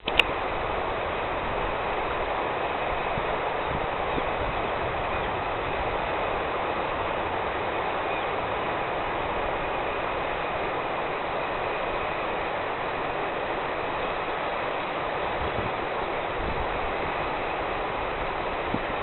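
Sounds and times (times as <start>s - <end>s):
river rushing in flood: 0.0s - 19.0s.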